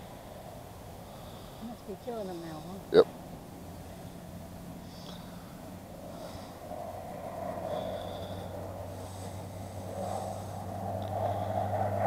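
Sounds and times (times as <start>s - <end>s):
distant plane engine droning: 0.0s - 12.0s.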